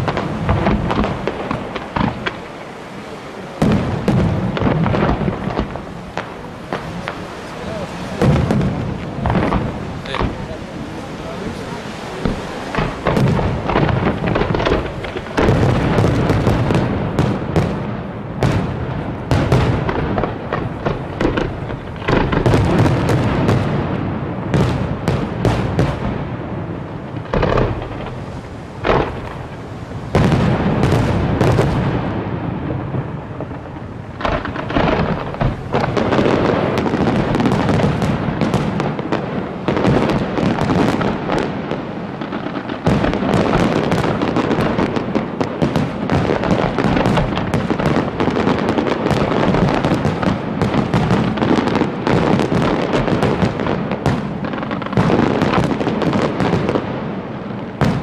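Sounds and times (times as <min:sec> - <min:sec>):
fireworks booming: 0:00.0 - 0:58.0
rapid fireworks bangs and crackling: 0:00.0 - 0:58.0.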